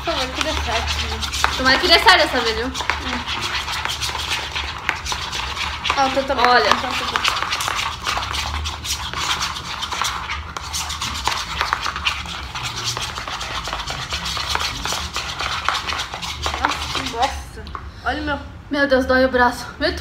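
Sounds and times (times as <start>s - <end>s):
spoons scraping slime in bowls: 0.0s - 17.9s.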